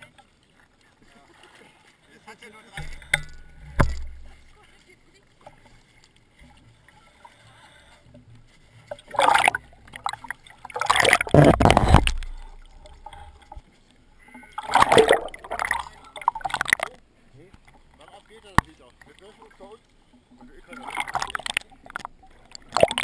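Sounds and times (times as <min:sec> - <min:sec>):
water sloshing and gurgling: 0:00.0 - 0:23.0.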